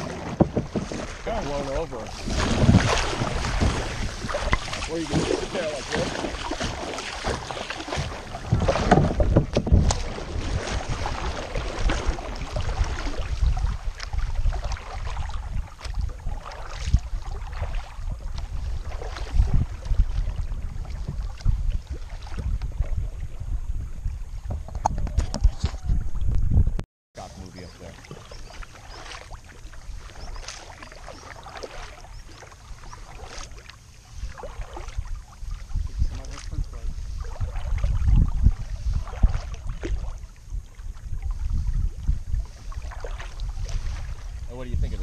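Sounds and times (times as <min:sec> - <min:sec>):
paddle splashing in water: 0:00.0 - 0:26.4, 0:27.3 - 0:45.0
water washing along hull: 0:00.0 - 0:26.6, 0:27.2 - 0:45.0
wind rumble on microphone: 0:00.0 - 0:27.7, 0:32.9 - 0:45.0.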